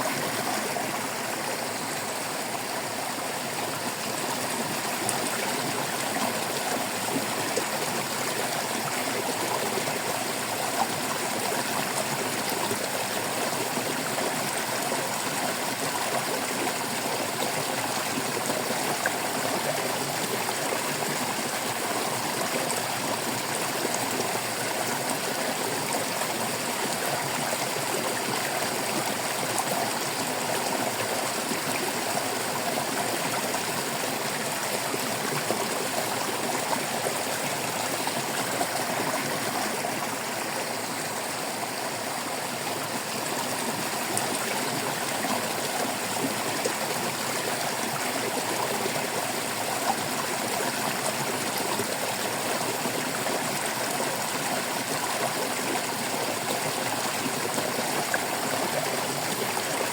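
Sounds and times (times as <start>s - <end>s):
stream trickling over rocks: 0.0s - 59.9s.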